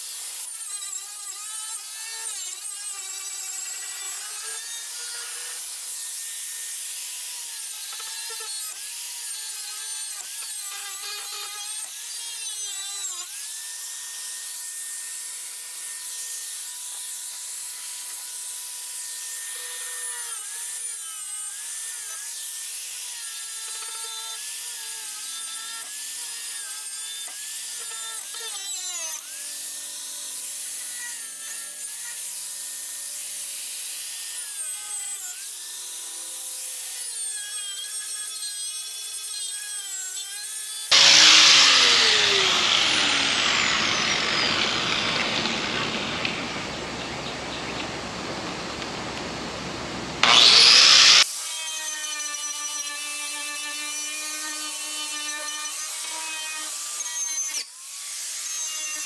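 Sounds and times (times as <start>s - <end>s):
power tool whining on sheet metal: 0.0s - 46.8s, 50.2s - 59.0s.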